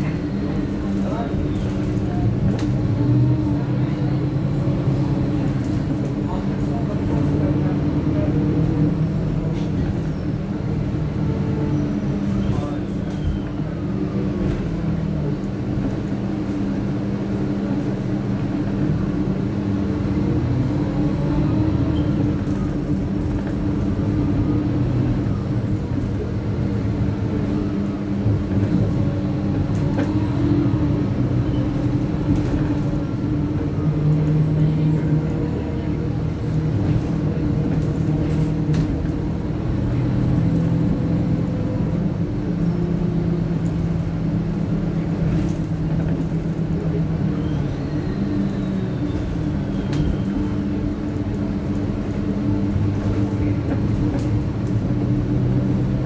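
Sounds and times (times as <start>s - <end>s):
bus engine rumbling: 0.0s - 56.0s.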